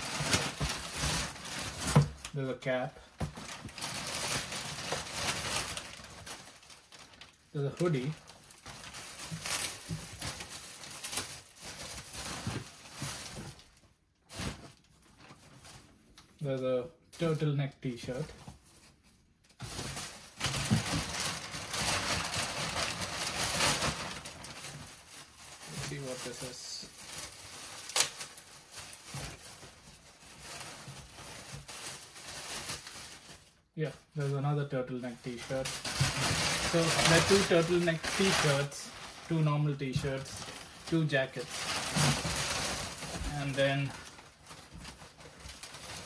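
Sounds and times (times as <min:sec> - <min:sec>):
plastic bag crinkling: 0:00.0 - 0:16.0, 0:18.6 - 0:46.0.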